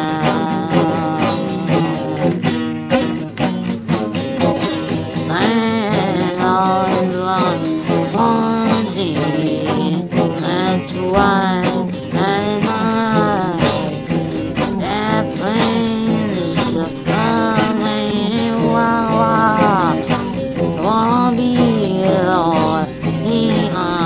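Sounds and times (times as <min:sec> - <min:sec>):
song with singing voice: 0:00.0 - 0:24.0.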